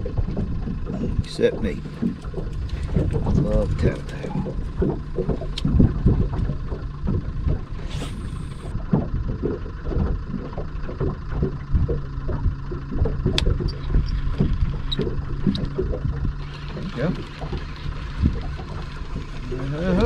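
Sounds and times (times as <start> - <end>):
steady low hum: 0.0 - 20.0
water and wind around boat: 0.0 - 20.0.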